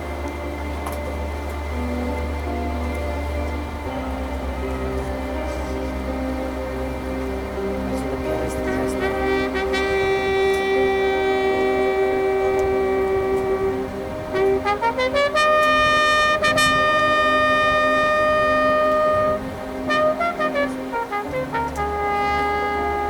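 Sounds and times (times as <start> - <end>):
marching band winds and brass: 0.0 - 23.0.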